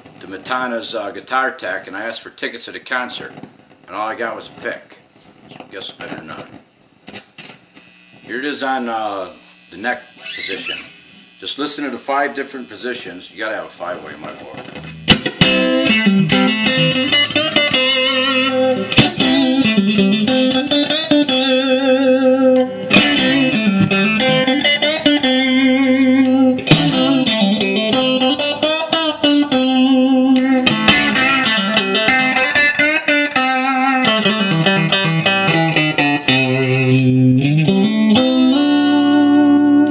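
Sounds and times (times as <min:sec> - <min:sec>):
electric guitar playing bluesy notes: 0:07.8 - 0:39.9.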